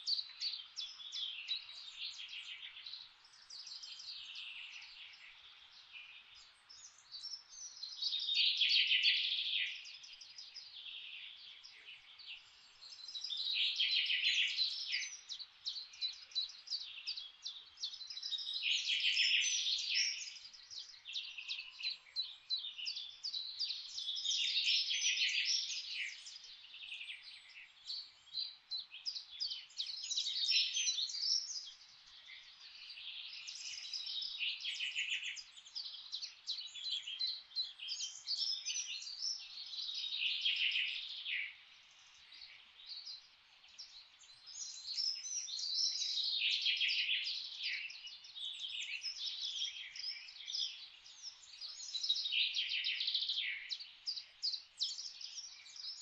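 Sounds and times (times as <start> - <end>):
faint forest ambience hiss: 0.0 - 56.0
songbirds singing: 0.0 - 56.0.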